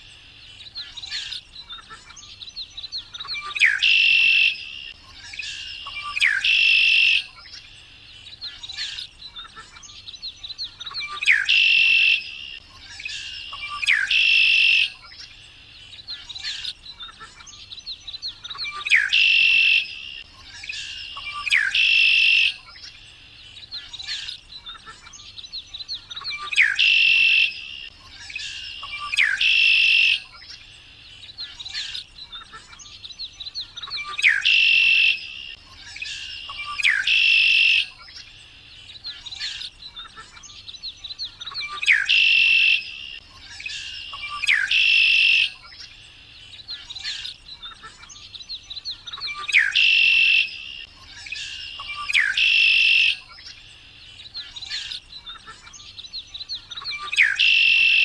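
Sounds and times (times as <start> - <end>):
blackbird song with buzzy trill: 0.0 - 58.0.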